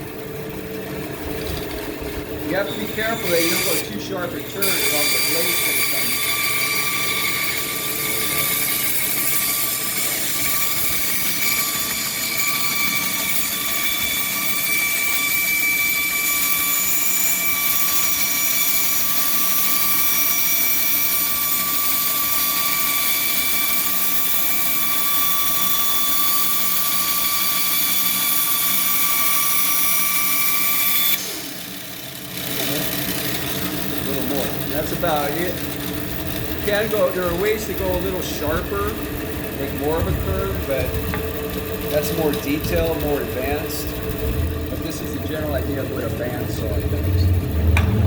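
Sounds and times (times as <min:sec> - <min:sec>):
band saw cutting wood: 0:00.0 - 0:48.0
shop vacuum running: 0:00.0 - 0:48.0.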